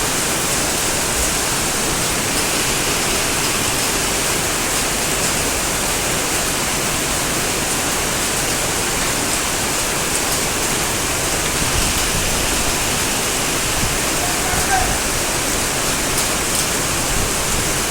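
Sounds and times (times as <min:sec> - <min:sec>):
rushing hiss of water: 0:00.0 - 0:17.9.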